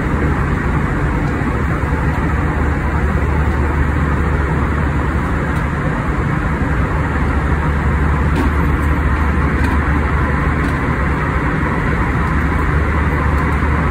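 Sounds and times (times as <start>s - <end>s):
jet engines and airflow rush: 0.0s - 13.9s.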